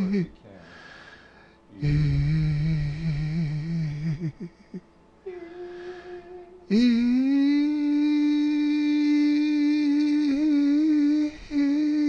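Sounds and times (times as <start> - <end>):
woman holding a steady vowel: 0.0 - 0.4, 1.7 - 12.0.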